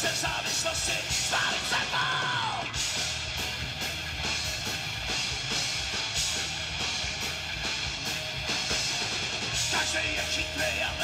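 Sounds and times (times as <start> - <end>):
heavy metal music: 0.0 - 11.0.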